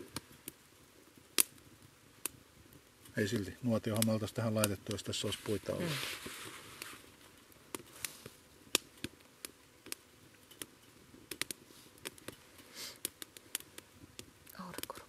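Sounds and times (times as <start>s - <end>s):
twigs crackling in a stove: 0.0s - 15.0s.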